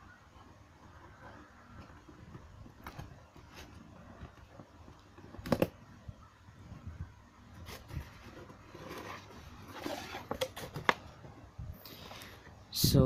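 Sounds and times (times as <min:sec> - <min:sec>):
cardboard rustling and scraping: 0:00.3 - 0:11.5.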